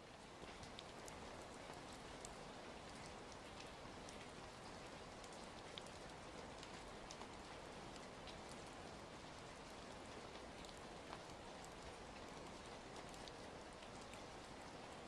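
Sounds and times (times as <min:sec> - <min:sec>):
faint rain: 0:00.0 - 0:15.0
wood fire crackling: 0:00.2 - 0:15.0.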